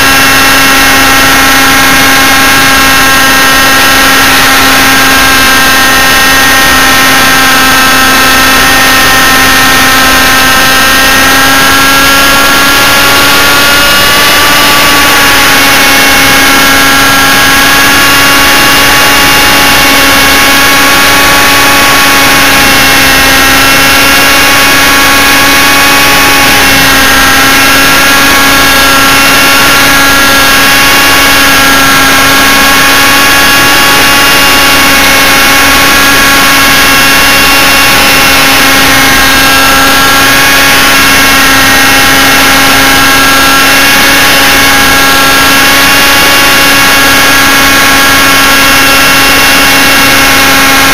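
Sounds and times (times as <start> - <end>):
model helicopter motor droning: 0.0 - 50.9.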